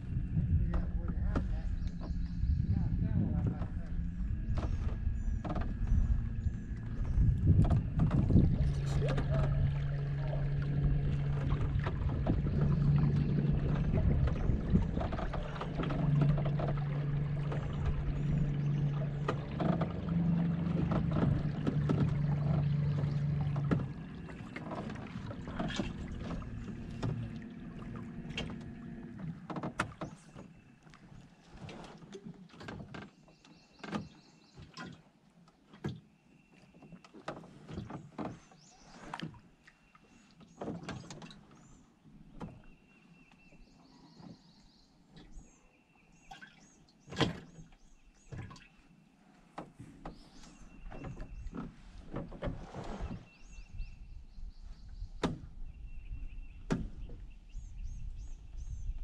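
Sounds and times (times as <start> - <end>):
low motor hum: 0.0 - 35.0, 35.6 - 59.0.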